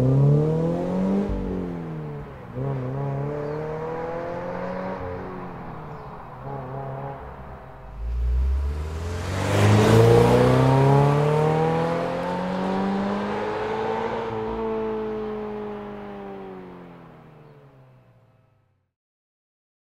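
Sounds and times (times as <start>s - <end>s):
car engine accelerating hard: 0.0s - 17.8s.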